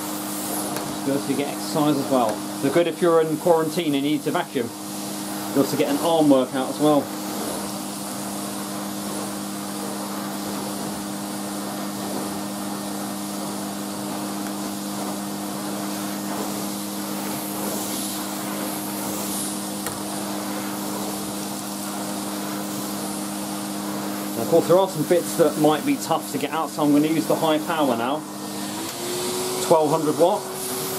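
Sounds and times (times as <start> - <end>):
floor tool pushed across carpet: 0.0 - 2.9, 4.7 - 25.7, 26.6 - 30.9
vacuum cleaner motor hum: 0.0 - 30.9.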